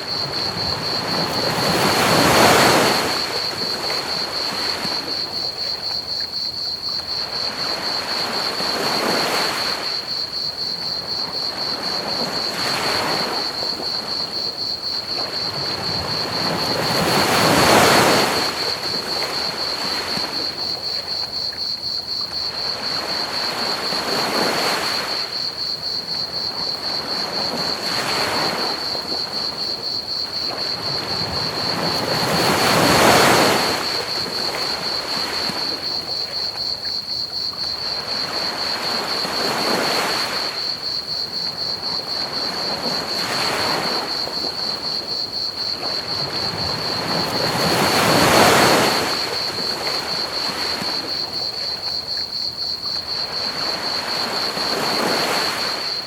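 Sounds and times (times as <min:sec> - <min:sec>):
cricket trill: 0:00.0 - 0:56.0
ocean waves washing onto beach: 0:00.0 - 0:56.0.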